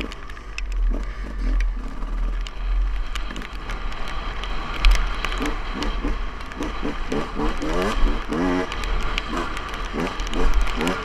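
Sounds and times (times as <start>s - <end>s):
dirt bike engine: 0.0s - 11.0s.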